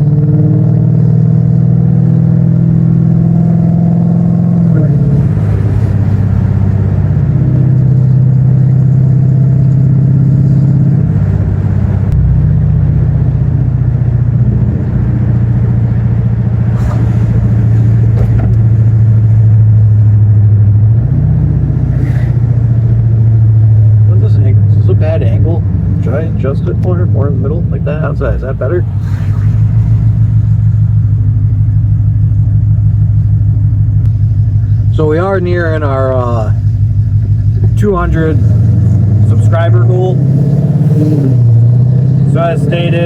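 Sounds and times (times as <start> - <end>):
car engine droning: 0.0 - 43.0.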